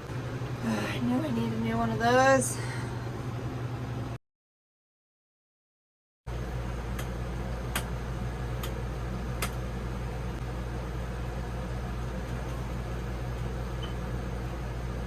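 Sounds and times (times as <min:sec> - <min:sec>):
low machine hum: 0:00.0 - 0:04.2, 0:06.3 - 0:15.0.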